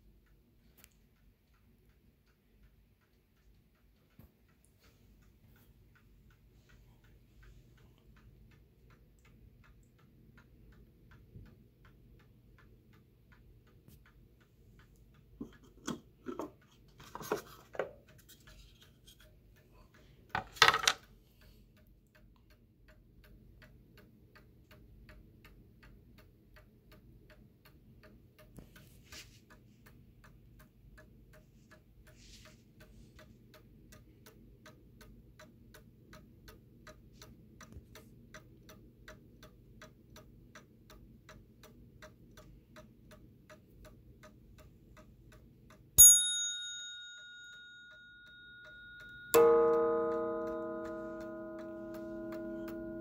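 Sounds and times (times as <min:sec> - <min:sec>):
mantel clock ticking: 0:00.0 - 0:53.0.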